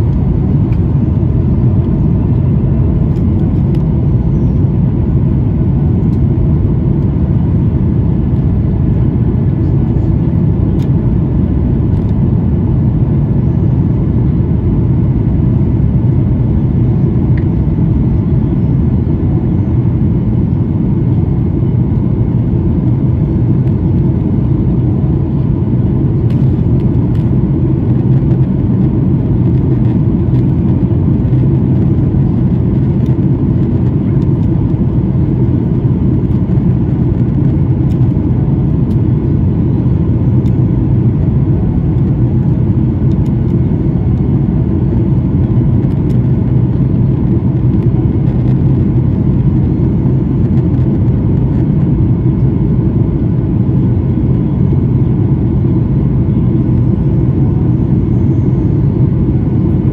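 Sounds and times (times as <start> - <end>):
faint steady whine: 0.0 - 59.9
jet engines roaring: 0.0 - 59.9.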